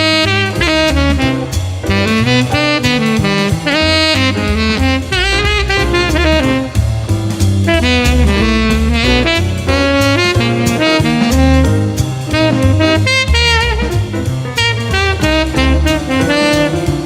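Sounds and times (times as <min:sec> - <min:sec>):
bass and drums: 0:00.0 - 0:17.0
jazz saxophone melody: 0:00.0 - 0:17.0.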